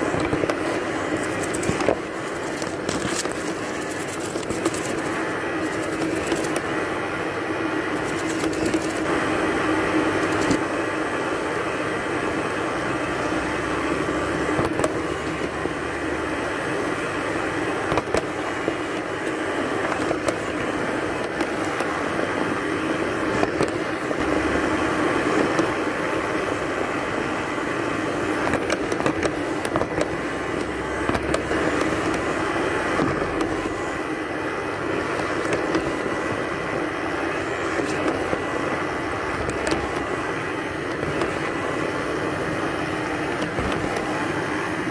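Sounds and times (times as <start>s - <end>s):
robot vacuum cleaner whirring: 0.0s - 44.9s.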